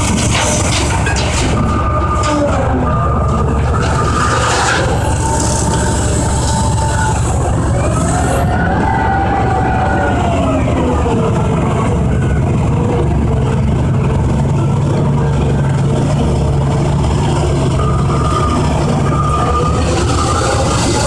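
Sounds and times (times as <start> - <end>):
engine whine falling in pitch: 0.0 - 21.0
heavy diesel engines running: 0.0 - 21.0.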